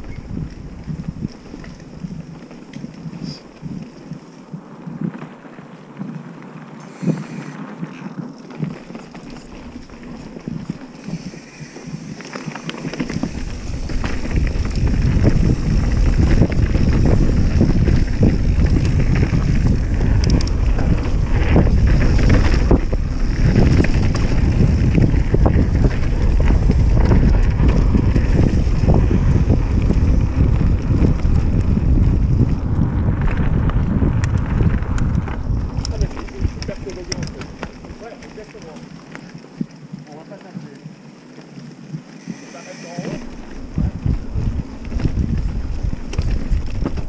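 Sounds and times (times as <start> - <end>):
bike knocking and rattling: 0.0 - 47.0
wind buffeting microphone: 0.0 - 47.0.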